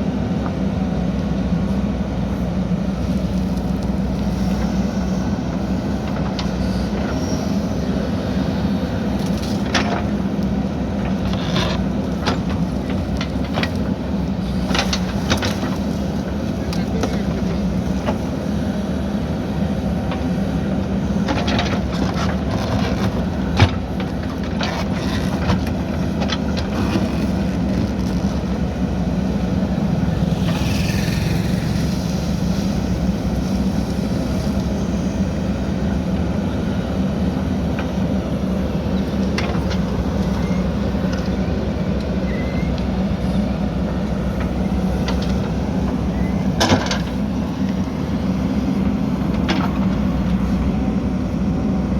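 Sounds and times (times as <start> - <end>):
diesel engine running under load: 0.0 - 51.9.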